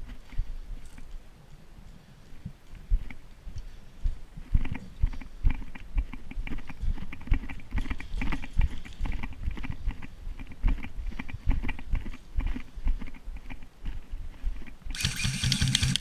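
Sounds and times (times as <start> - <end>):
footsteps: 0.0 - 15.1
gear crackling and rustling: 0.0 - 16.0.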